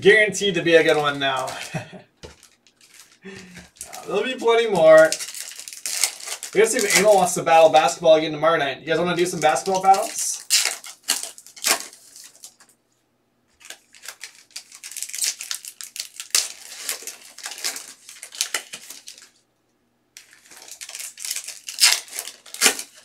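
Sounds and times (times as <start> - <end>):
foil wrappers crinkling and tearing: 0.7 - 7.4, 9.2 - 12.7, 13.6 - 19.4, 20.2 - 23.0.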